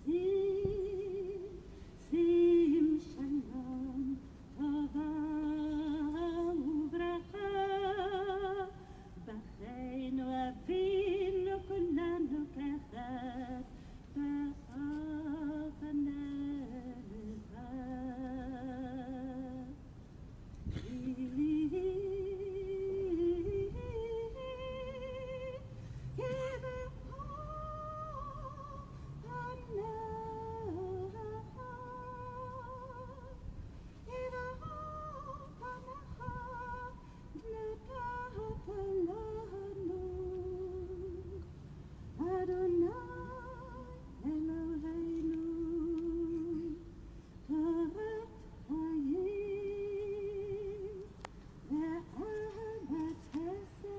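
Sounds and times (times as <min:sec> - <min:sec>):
woman singing unaccompanied: 0:00.0 - 0:19.8, 0:20.8 - 0:53.9.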